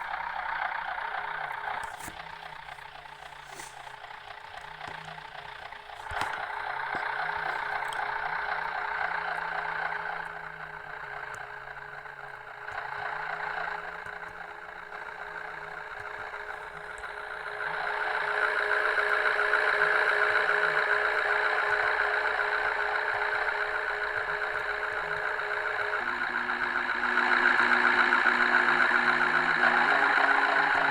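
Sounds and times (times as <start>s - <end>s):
bus engine drone and whine: 0.0s - 30.9s.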